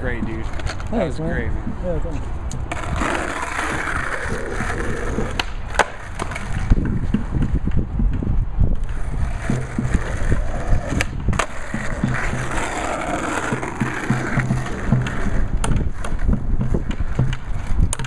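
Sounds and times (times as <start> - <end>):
skateboard wheels rolling on asphalt: 0.0 - 18.0
skateboard clacks: 2.6 - 18.0.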